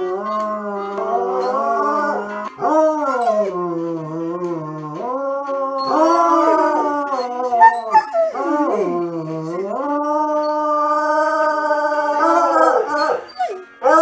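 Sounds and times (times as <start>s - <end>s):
dog howling: 0.0s - 14.0s
music: 0.0s - 14.0s.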